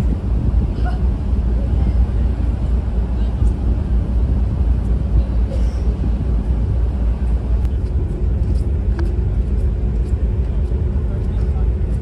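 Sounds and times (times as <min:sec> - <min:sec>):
ferry low rumble: 0:00.0 - 0:12.0.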